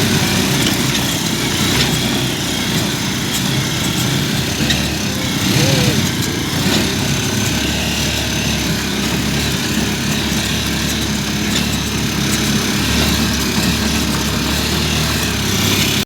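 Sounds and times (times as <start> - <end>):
small motor engine running: 0.0 - 16.0.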